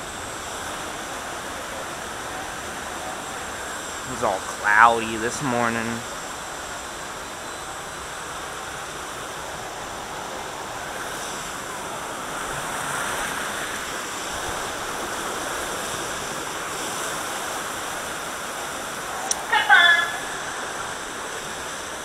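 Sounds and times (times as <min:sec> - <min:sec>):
rushing churning water: 0:00.0 - 0:22.0.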